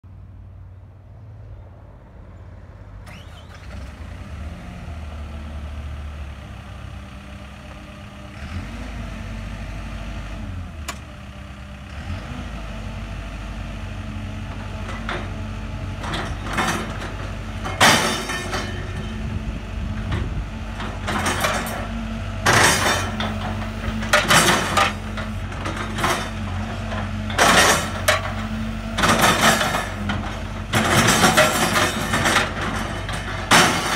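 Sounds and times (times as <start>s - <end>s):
excavator diesel engine running: 0.4s - 33.9s.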